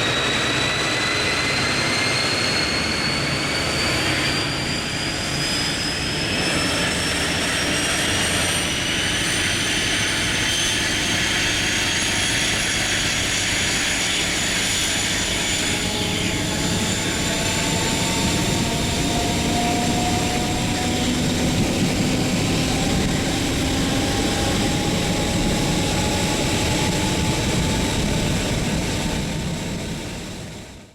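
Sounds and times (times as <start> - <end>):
high whistle and whines: 0.0 - 30.6
diesel train engine roaring: 0.0 - 30.8.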